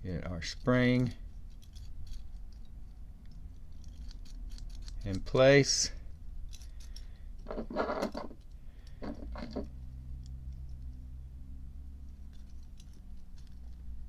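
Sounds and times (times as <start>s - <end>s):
low steady hum: 0.0s - 14.0s
metal parts scraping: 0.4s - 10.9s, 12.0s - 14.0s.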